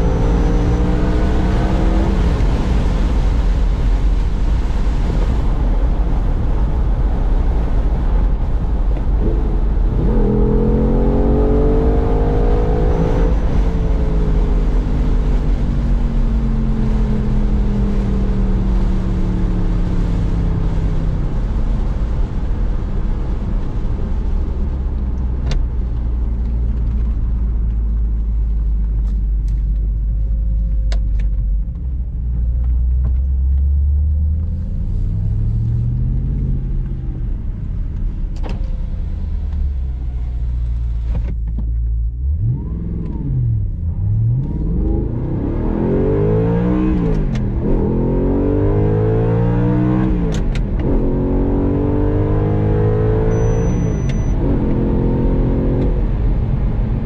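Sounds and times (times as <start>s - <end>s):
car engine accelerating through gears: 0.0s - 3.7s, 6.2s - 57.0s.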